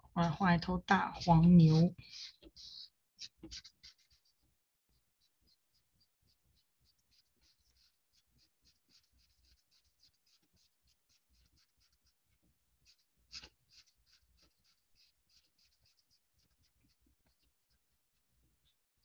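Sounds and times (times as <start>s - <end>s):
marker scribbling on paper: 0.3s - 17.9s.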